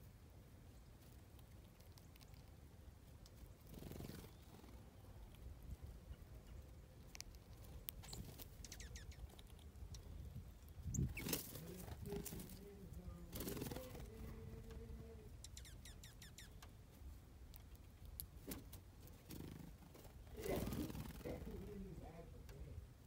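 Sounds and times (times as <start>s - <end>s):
low outdoor rumble: 0.0s - 23.0s
low steady hum: 0.0s - 23.0s
songbirds chirping: 0.0s - 23.0s.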